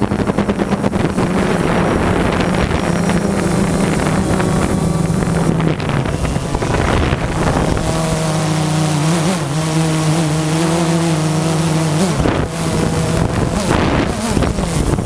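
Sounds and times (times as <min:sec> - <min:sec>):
drone propellers buzzing: 0:00.0 - 0:15.0
wind on microphone: 0:00.0 - 0:15.0.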